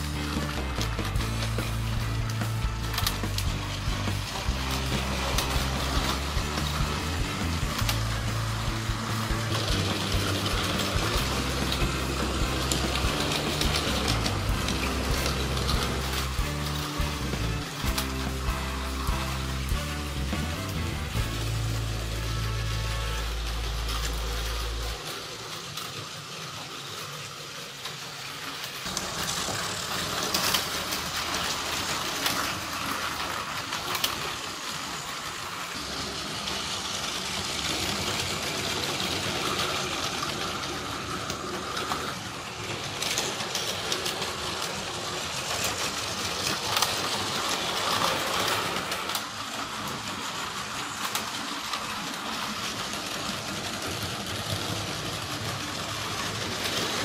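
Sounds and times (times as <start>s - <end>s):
toy train motors whirring: 0.0s - 57.0s
wheels clattering over track joints: 0.0s - 57.0s.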